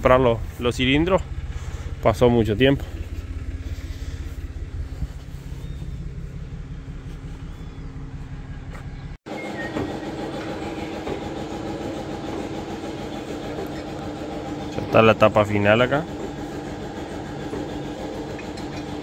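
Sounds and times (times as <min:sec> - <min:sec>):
engine humming steadily: 0:00.0 - 0:19.0
higher-toned machine hum: 0:01.1 - 0:19.0.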